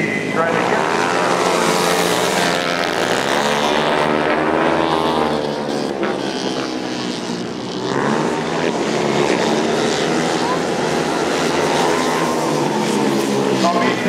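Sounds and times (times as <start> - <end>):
motorcycle engines racing: 0.0 - 14.0.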